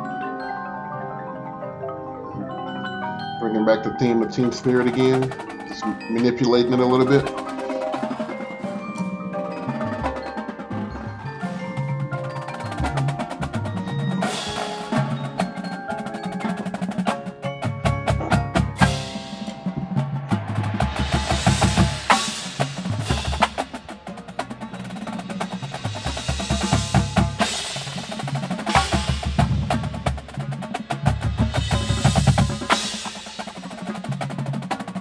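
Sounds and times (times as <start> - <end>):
marimbas playing: 0.0 - 35.0
snare drums: 4.2 - 35.0.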